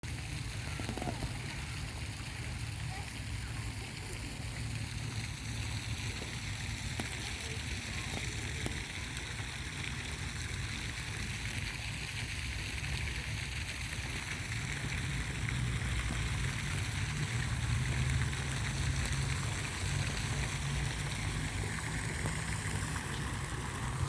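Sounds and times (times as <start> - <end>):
faint ticks and splashes: 0.0 - 24.0
water rushing: 0.0 - 24.0.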